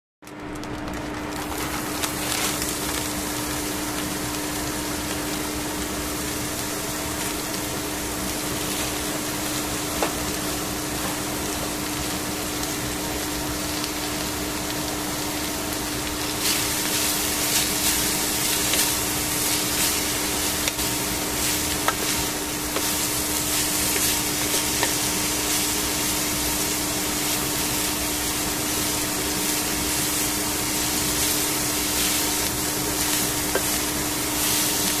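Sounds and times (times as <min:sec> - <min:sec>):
constant low hum: 0:00.2 - 0:35.0
vegetables sizzling in a pan: 0:00.9 - 0:35.0.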